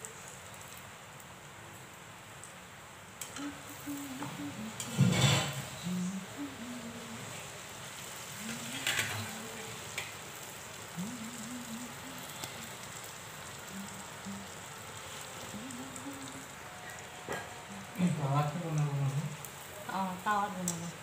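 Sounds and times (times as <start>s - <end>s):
deep-frying bubbling sizzle: 0.0s - 21.0s.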